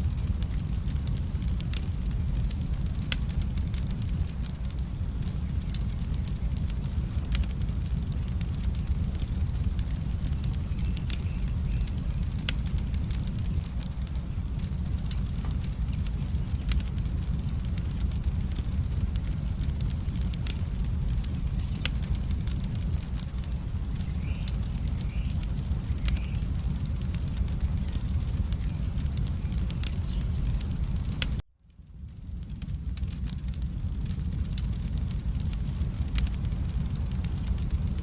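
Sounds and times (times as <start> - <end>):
fire crackling and popping: 0.0 - 38.0
wood fire rumbling: 0.0 - 38.0.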